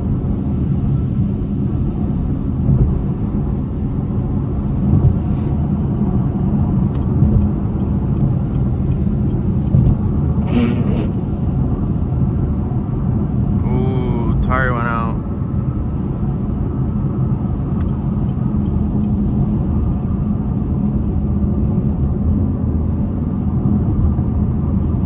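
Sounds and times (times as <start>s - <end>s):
car engine drone in cabin: 0.0s - 25.0s
road noise: 0.0s - 25.0s.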